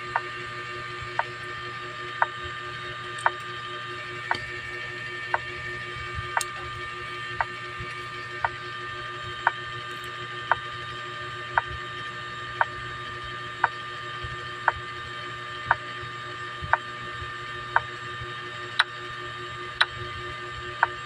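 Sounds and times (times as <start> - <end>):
humming machine drone: 0.0 - 21.0.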